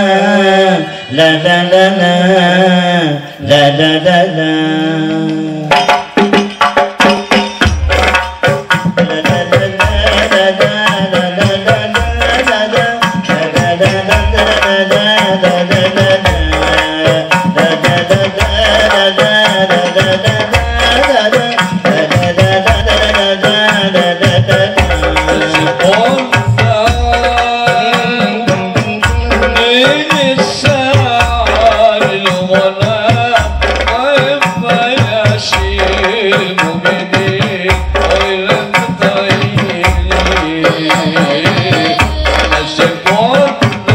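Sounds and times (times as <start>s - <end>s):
men singing together: 0.0s - 5.8s, 8.8s - 43.9s
frame drums playing: 5.7s - 43.9s.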